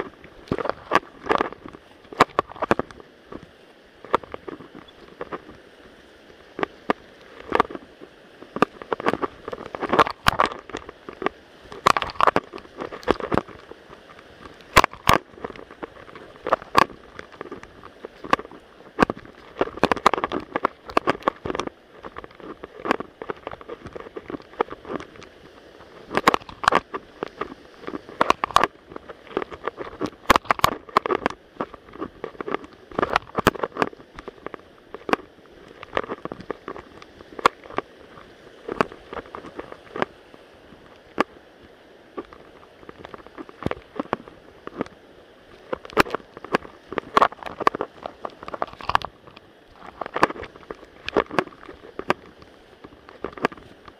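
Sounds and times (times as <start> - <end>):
sharp clicks and knocks: 0.0 - 5.6, 8.4 - 40.2, 42.2 - 53.9
stream water running: 0.0 - 53.9.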